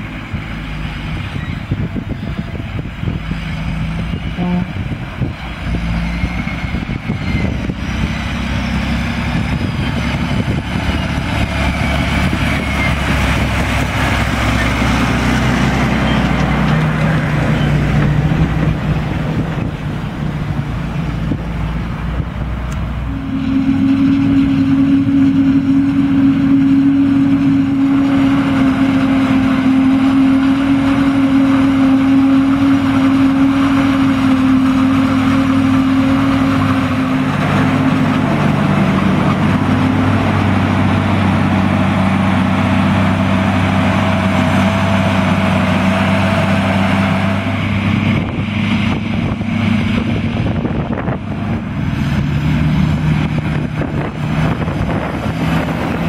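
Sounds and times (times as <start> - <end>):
heavy diesel engines under load: 0.0 - 56.0.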